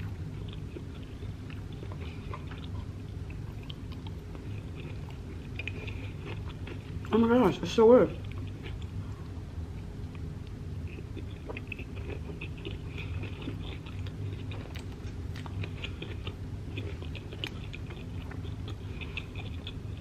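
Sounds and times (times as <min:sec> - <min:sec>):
person chewing wetly: 0:00.0 - 0:07.2, 0:08.2 - 0:20.0
steady low hum: 0:00.0 - 0:20.0.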